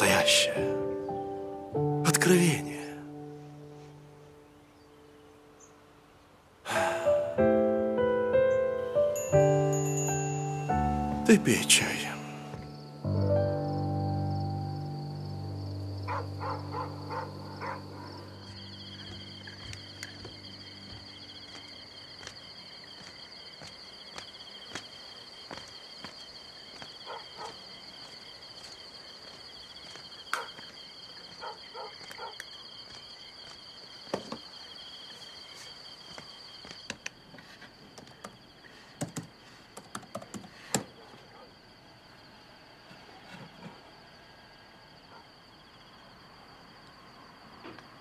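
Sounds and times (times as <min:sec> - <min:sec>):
insects trilling: 0:00.0 - 0:48.0.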